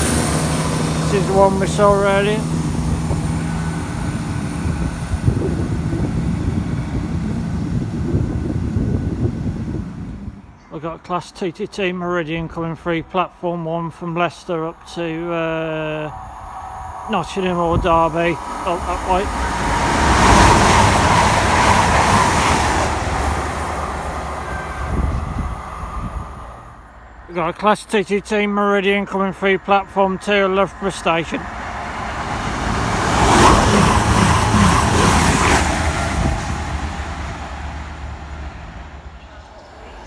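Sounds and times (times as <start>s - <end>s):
diesel train engines rumbling: 0.0s - 40.0s.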